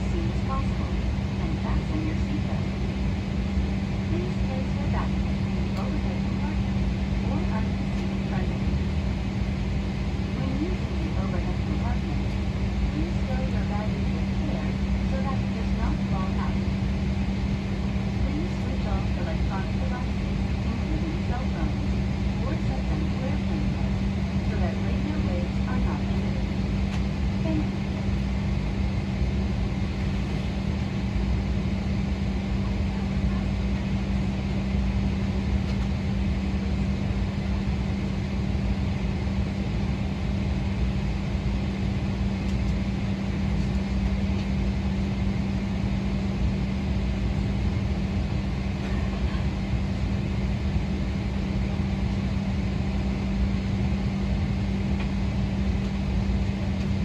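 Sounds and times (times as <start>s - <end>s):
airplane cabin hum: 0.0s - 57.0s.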